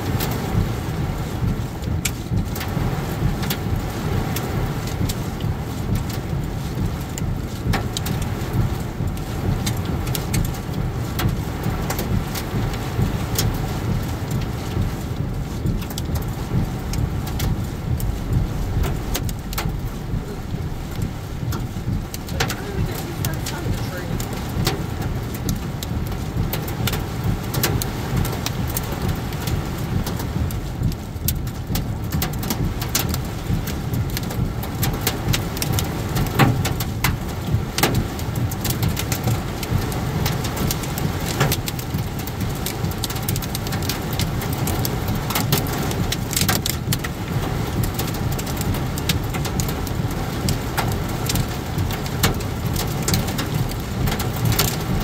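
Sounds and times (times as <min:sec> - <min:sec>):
heavy rain drumming on car: 0:00.0 - 0:55.0
raindrop hits: 0:00.0 - 0:55.0
road and engine rumble: 0:00.0 - 0:55.0.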